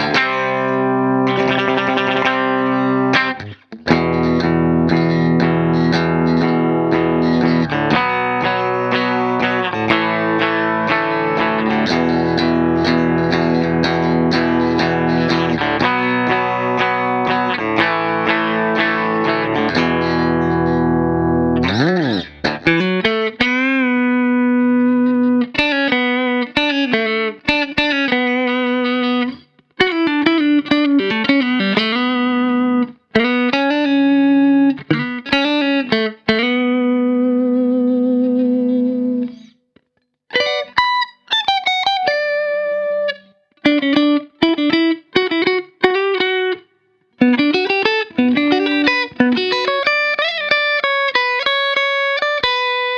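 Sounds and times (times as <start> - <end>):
distorted electric guitar: 0.0 - 39.6, 40.3 - 46.6, 47.2 - 52.9.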